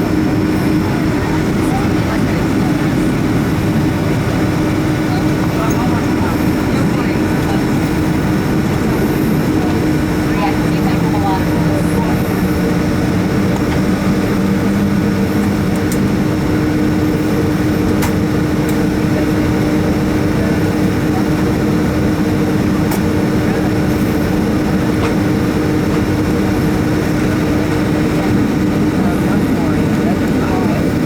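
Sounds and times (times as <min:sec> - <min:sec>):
jet engines droning in cabin: 0:00.0 - 0:31.0.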